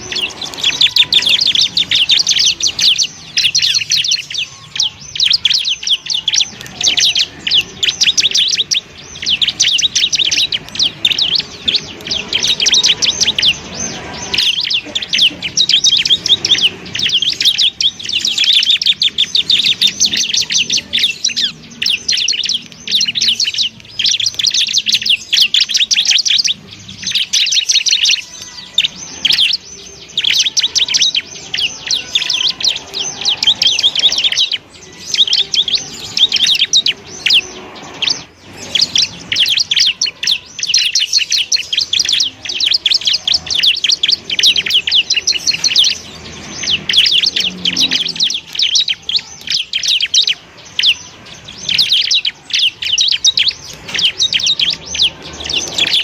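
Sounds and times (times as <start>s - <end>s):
prinia chattering song: 0.0s - 56.0s.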